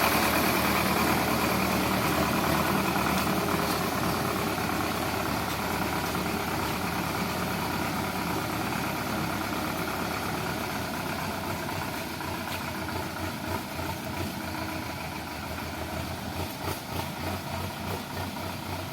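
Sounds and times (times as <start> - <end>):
tractor diesel engine idling: 0.0 - 18.9.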